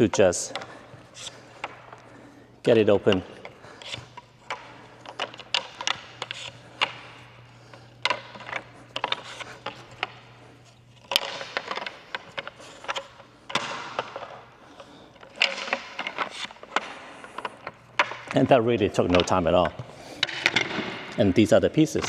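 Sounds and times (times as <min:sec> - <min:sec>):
clicks and rattles of net parts: 0:00.0 - 0:22.0.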